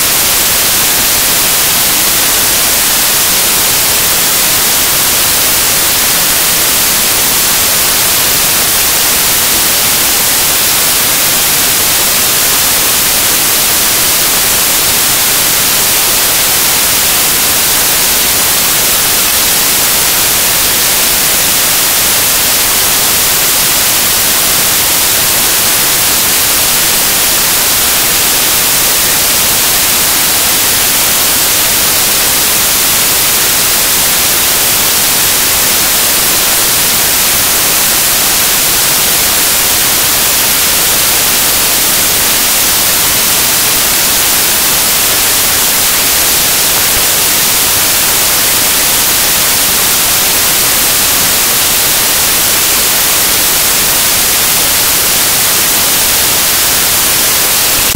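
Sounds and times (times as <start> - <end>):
loud static hiss: 0.0 - 57.9.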